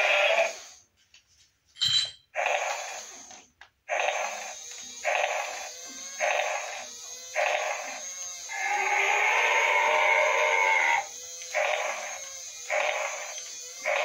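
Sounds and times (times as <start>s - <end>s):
toy electronic roars: 0.0s - 0.8s, 2.4s - 14.0s.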